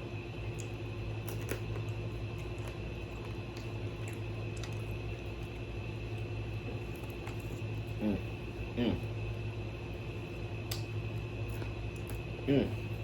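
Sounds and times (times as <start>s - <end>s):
electrical hum: 0.0s - 13.0s
chewing crispy food: 0.1s - 13.0s.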